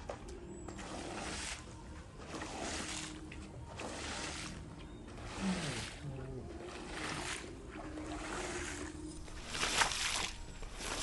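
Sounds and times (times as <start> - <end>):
squeegee wet swishes on rug: 0.7 - 6.0, 6.6 - 11.0.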